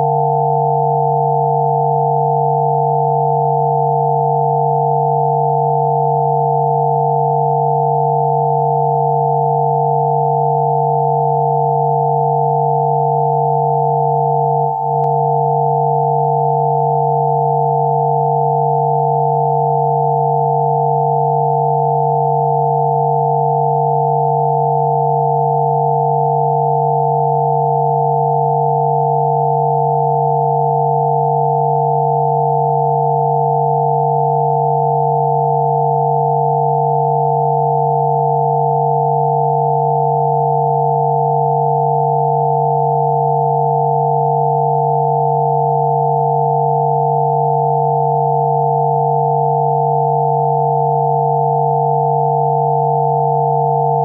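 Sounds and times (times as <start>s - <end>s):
pure electronic tones: 0.0s - 54.0s.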